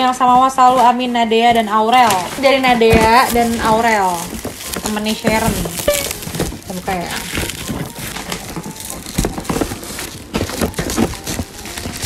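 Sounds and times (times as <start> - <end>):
plastic wrap and cardboard crinkling: 0.0 - 12.0
small knocks and scrapes: 0.0 - 12.0.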